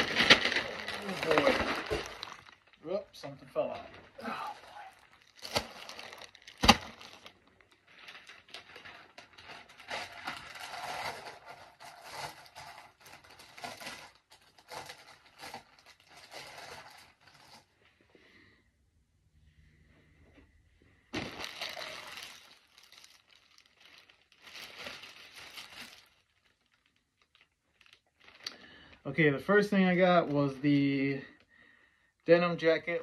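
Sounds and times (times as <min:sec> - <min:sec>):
plastic bags crinkling: 0:00.0 - 0:17.8, 0:21.1 - 0:31.5.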